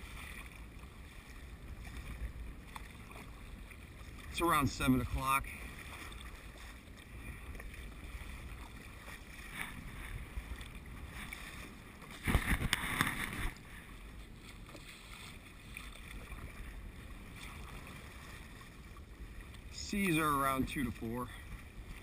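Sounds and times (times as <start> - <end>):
water washing against kayak hull: 0.0 - 22.0.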